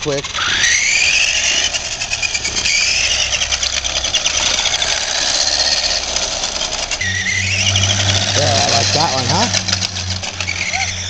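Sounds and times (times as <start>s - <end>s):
toy car motor whining: 0.0s - 11.0s.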